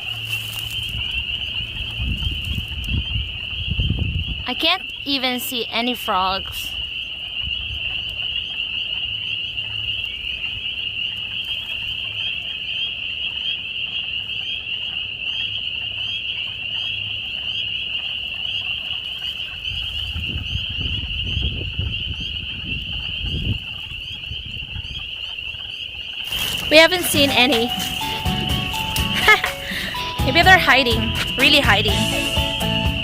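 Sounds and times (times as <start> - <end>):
frogs trilling: 0.0 - 33.0.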